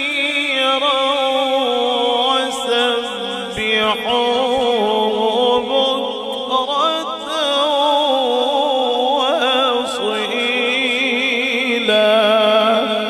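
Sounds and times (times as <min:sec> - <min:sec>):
man chanting through microphone: 0:00.0 - 0:13.0.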